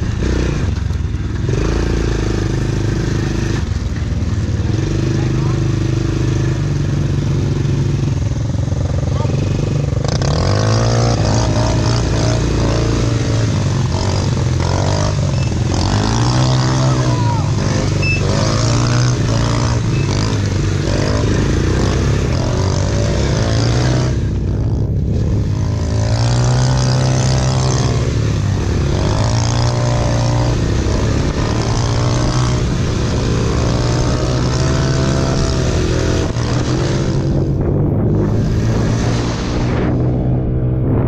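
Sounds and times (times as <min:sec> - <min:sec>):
quad engine revving: 0:00.0 - 0:41.0.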